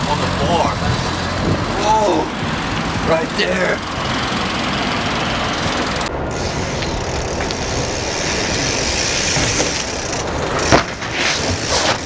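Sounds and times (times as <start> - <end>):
bike striking concrete: 0.0 - 12.0
street traffic noise: 0.0 - 12.0.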